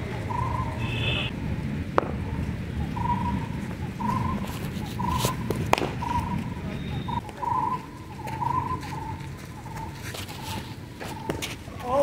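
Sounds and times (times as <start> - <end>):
bird calling: 0.0 - 1.3, 2.2 - 12.0.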